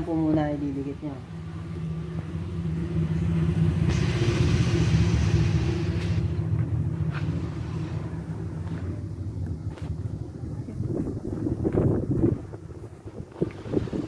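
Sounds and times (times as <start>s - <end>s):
mechanical hum and rumble: 0.0s - 14.0s.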